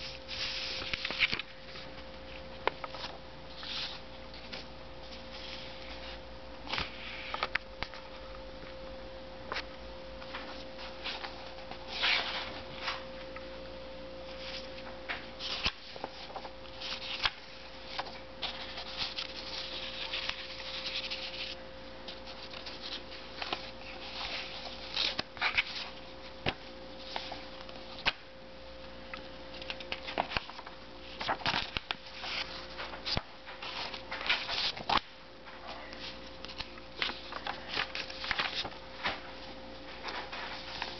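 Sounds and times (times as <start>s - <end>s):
paper pages rustling: 0.0s - 8.1s, 9.5s - 13.1s, 14.3s - 28.2s, 29.2s - 40.9s
steady electrical hum: 0.0s - 40.9s.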